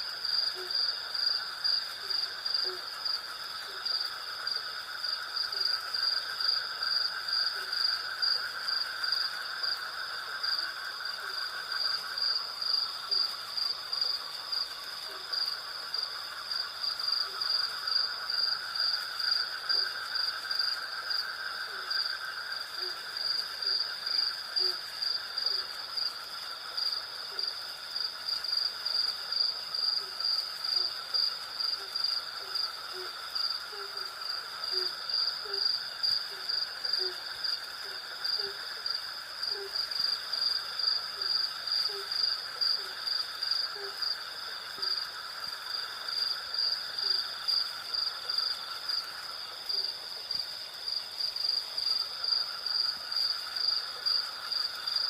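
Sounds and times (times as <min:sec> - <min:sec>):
high insect trill: 0:00.0 - 0:55.0
insects chirping rhythmically: 0:00.0 - 0:55.0.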